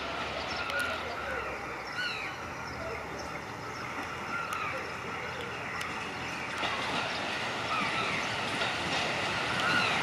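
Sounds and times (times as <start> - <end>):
diesel train approaching on rails: 0.0 - 10.0.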